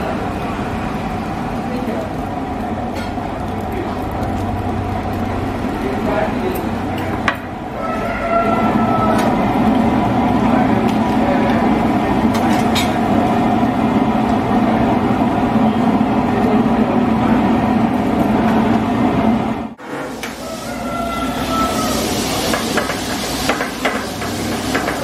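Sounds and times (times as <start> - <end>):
gravy boiling hard: 0.0 - 19.0, 19.7 - 25.0.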